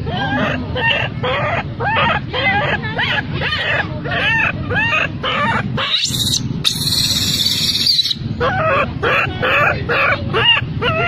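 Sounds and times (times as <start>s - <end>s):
baby monkey screaming: 0.0s - 11.0s
baby monkey whimpering cries: 0.0s - 11.0s.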